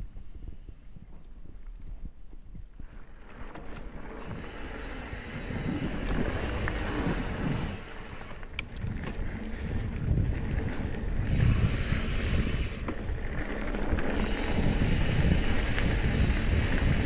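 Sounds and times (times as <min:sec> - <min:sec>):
mountain bike tyre and drivetrain noise: 0:00.0 - 0:17.0
wind on microphone: 0:00.0 - 0:17.0
bike rattling clicks: 0:03.2 - 0:17.0.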